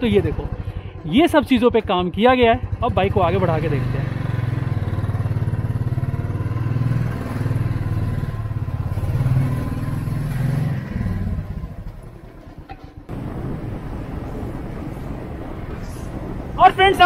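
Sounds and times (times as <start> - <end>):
motorcycle engine pulling away: 0.0 - 16.6.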